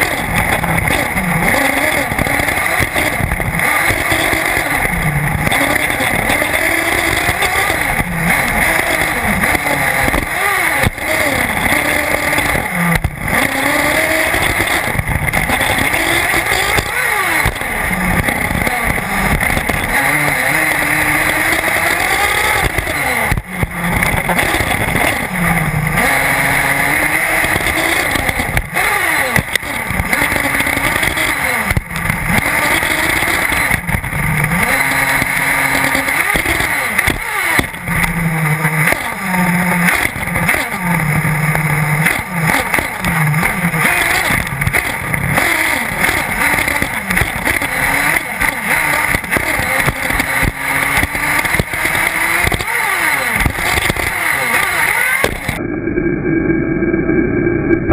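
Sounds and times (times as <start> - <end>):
small nitro engine revving: 0.0 - 57.9.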